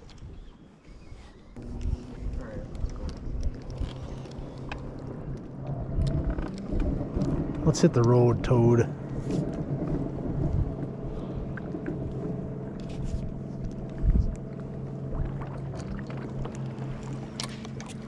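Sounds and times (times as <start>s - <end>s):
boat motor humming: 0.0s - 18.0s
wind buffeting microphone: 0.0s - 18.0s.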